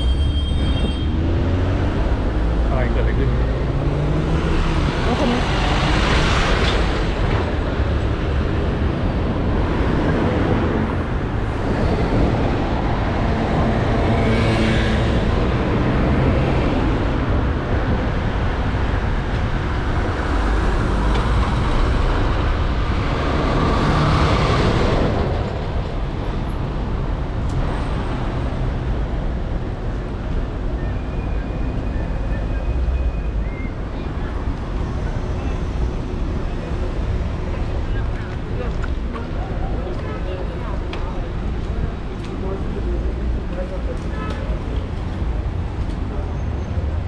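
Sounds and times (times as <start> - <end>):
road noise hum: 0.0 - 47.0
vehicles passing: 0.0 - 47.0.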